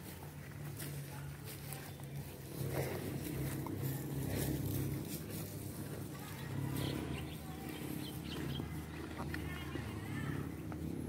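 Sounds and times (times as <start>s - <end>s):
cow chewing grass: 0.0s - 11.0s
low steady rumble: 0.0s - 11.0s.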